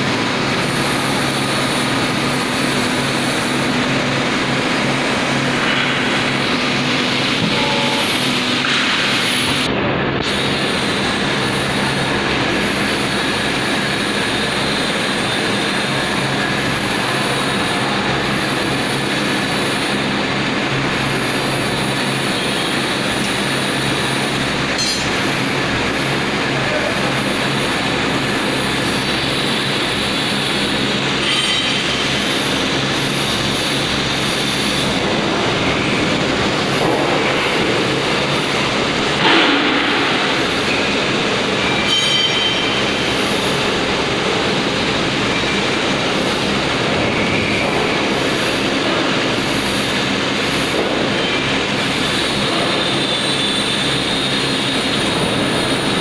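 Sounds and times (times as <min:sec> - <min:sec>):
baler machine humming: 0:00.0 - 0:56.0.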